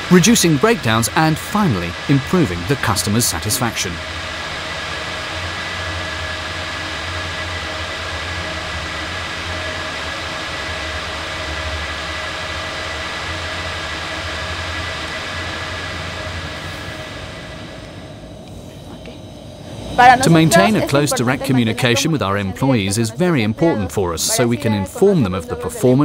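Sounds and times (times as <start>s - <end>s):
machinery droning: 0.0s - 26.0s
whining tones: 0.0s - 26.0s.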